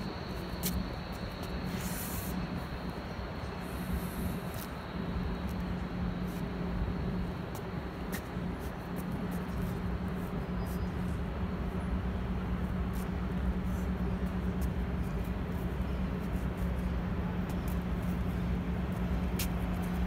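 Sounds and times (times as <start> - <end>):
city traffic: 0.0 - 20.0
constant low hum: 0.0 - 20.0.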